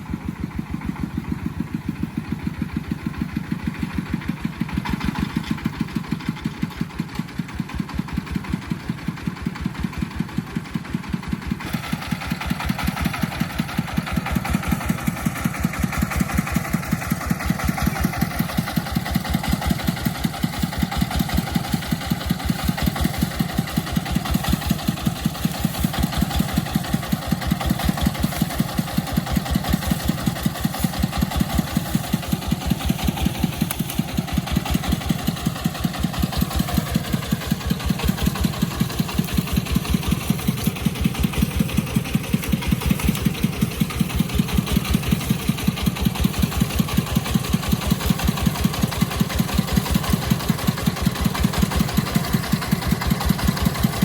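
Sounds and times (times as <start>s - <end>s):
agricultural vehicle engine pulsing: 0.0s - 54.0s.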